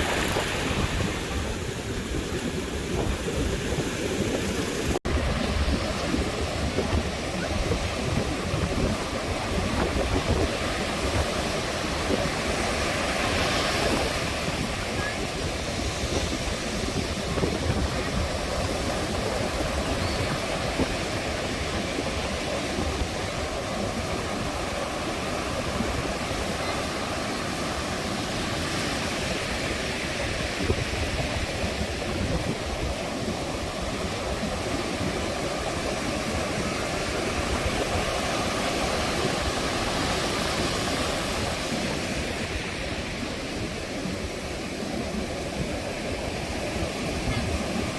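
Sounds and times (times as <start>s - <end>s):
sea waves breaking on beach: 0.0s - 47.9s.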